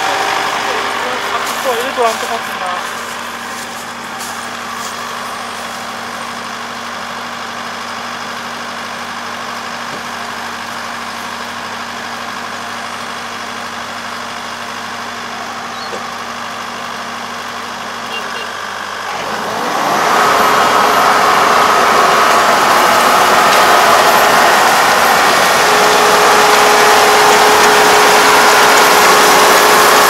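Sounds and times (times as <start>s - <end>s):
combine harvester droning: 0.0s - 30.0s.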